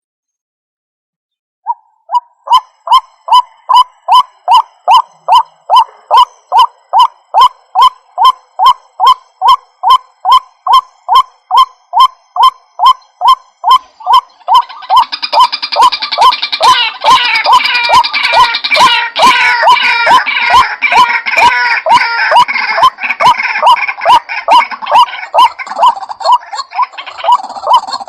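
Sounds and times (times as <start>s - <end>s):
waterhen calling: 1.7s - 28.0s.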